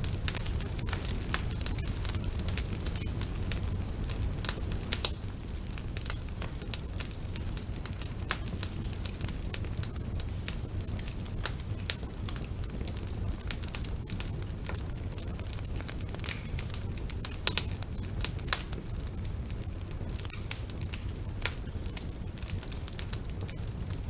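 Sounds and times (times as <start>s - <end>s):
logs crackling and popping: 0.0s - 24.0s
wood fire burning: 0.0s - 24.0s.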